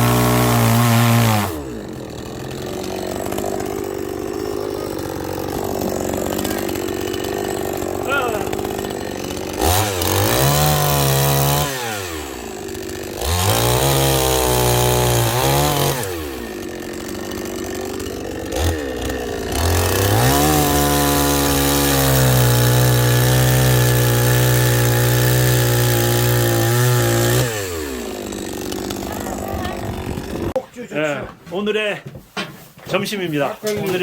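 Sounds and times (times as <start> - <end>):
chainsaw revving and idling: 0.0 - 30.6.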